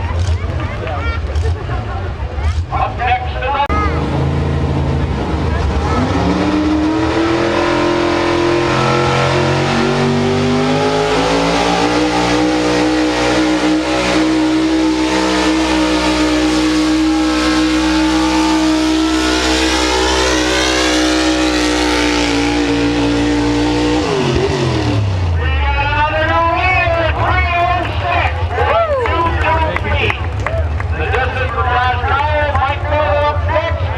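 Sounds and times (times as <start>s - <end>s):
truck engine at high revs: 0.0s - 33.9s.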